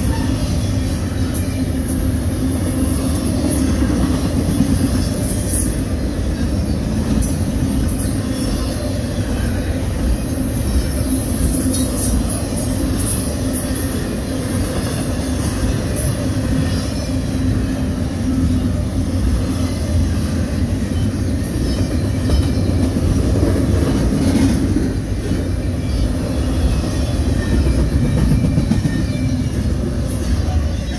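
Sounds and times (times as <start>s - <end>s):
steel wheels rumbling on rails: 0.0s - 30.9s.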